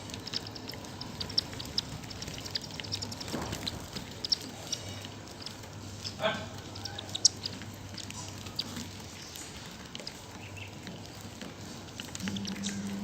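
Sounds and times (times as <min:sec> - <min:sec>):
faint low hum: 0:00.0 - 0:13.0
sparrows chirping: 0:00.0 - 0:13.0
sparrows pecking seed: 0:00.0 - 0:13.0.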